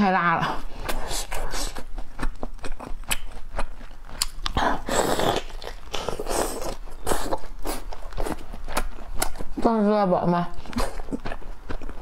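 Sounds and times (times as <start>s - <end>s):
person biting and chewing: 0.8s - 9.6s, 10.6s - 12.0s.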